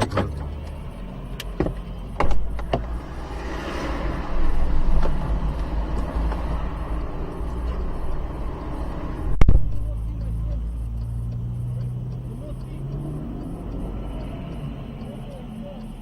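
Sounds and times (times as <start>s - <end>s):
sharp clicks: 0.0s - 3.2s, 5.0s - 16.0s
car engine and road rumble: 0.0s - 16.0s.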